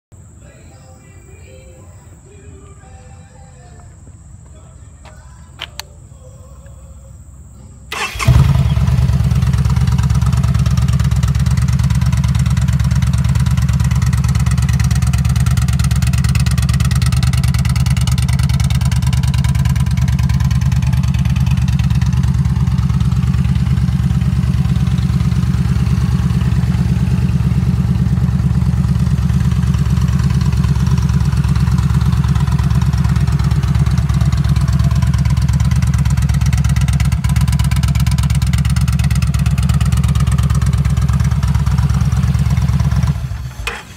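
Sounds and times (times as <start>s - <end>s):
motorcycle engine starting and idling: 3.6s - 43.9s.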